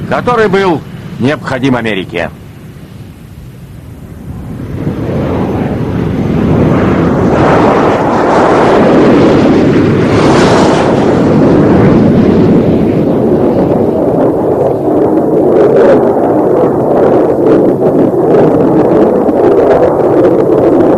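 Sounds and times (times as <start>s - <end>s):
jet engines running: 0.0s - 20.9s.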